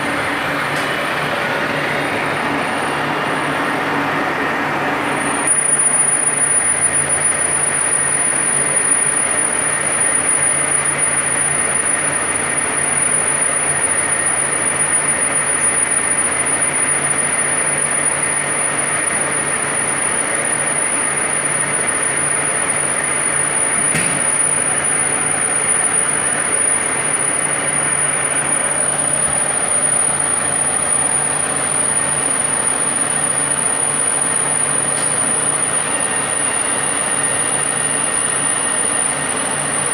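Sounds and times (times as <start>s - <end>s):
high whine: 0.0s - 39.9s
milling machine running: 0.0s - 39.9s.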